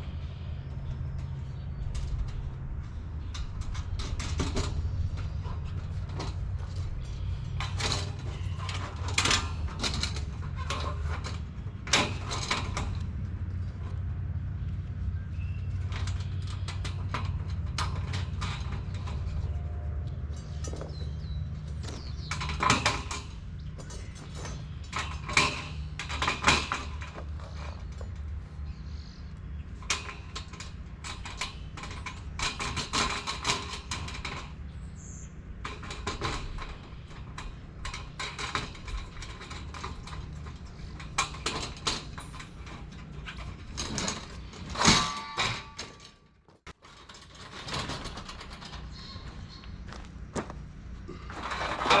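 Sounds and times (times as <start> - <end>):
metal panels clinking and rattling: 0.0 - 52.0.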